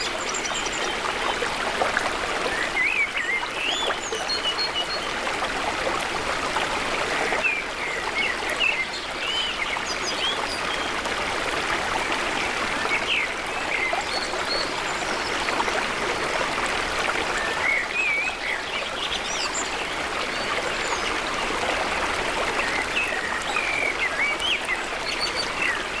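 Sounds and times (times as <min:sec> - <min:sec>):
stream running: 0:00.0 - 0:26.0.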